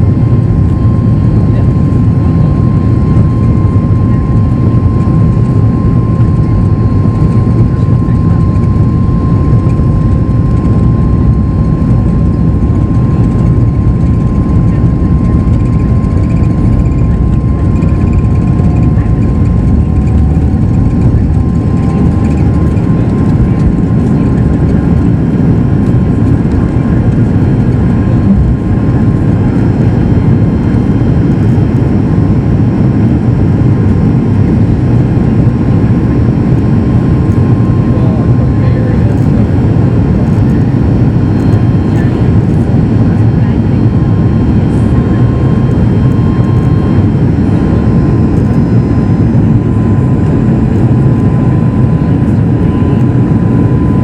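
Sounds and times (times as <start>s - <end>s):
airplane cabin engine roar: 0.0s - 54.0s
steady whine: 0.0s - 54.0s.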